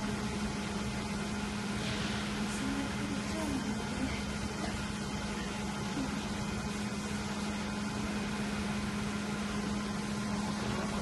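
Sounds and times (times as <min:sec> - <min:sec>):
electrical fans humming: 0:00.0 - 0:11.0.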